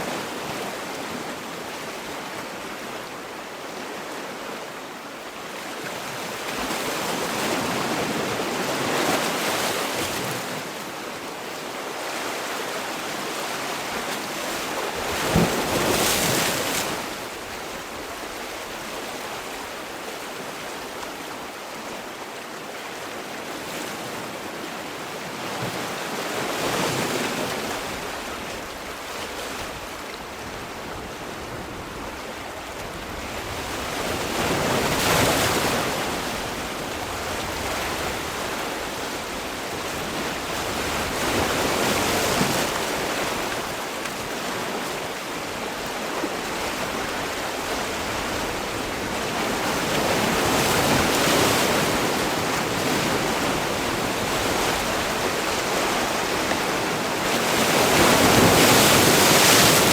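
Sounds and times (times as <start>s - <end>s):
sea waves breaking ashore: 0.0s - 59.9s.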